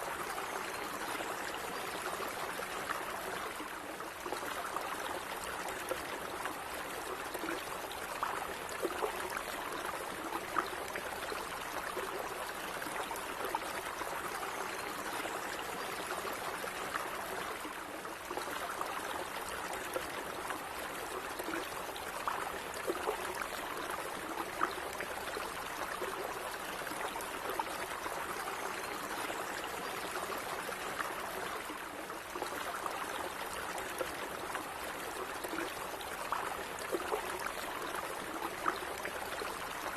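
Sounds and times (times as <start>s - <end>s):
stream trickling and gurgling: 0.0s - 39.9s.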